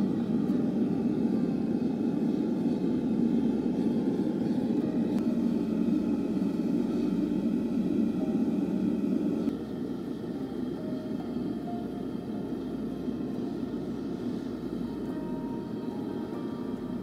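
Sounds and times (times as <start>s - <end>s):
gas burner roaring: 0.0s - 17.0s.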